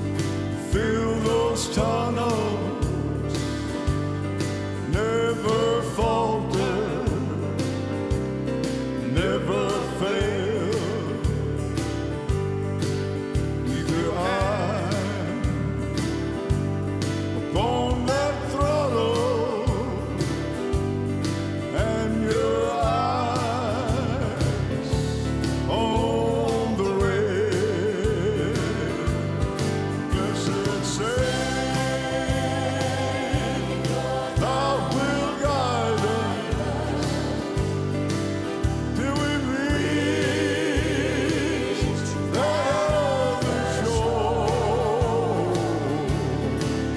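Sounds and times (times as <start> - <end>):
person singing with vibrato: 0.0 - 8.1, 9.0 - 11.6, 13.6 - 15.8, 17.5 - 20.5, 21.6 - 46.9
gospel band playing: 0.0 - 46.9.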